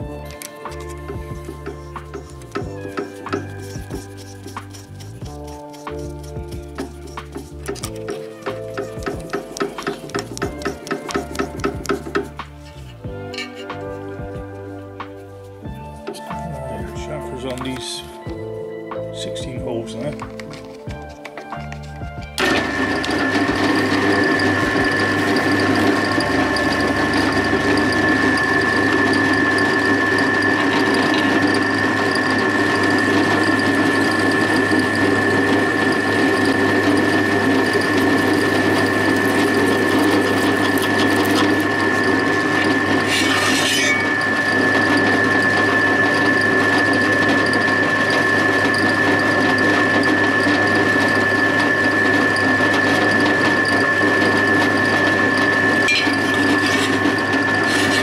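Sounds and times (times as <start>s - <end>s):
drill press whining: 0.0s - 14.3s, 19.2s - 58.0s.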